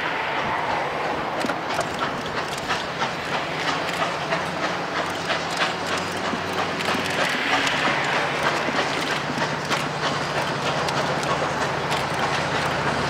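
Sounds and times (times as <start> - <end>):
train running noise: 0.0 - 13.0
train wheels clacking on track: 0.0 - 13.0.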